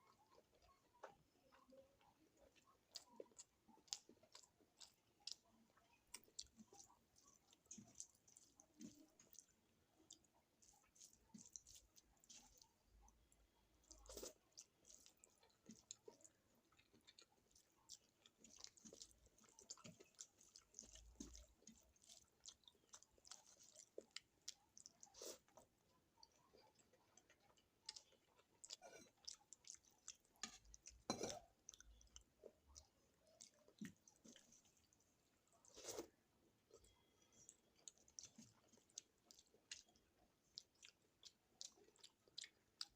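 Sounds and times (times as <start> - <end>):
person chewing and eating: 0.0 - 42.9.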